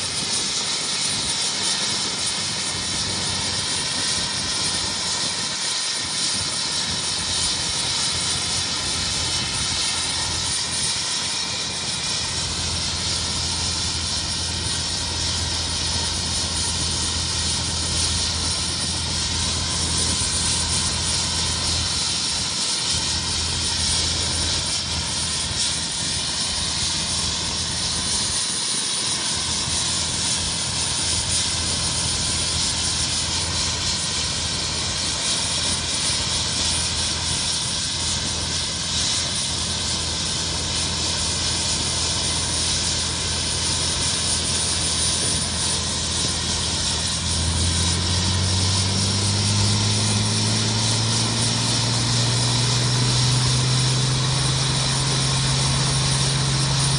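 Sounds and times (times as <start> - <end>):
helicopter running: 0.0 - 56.9.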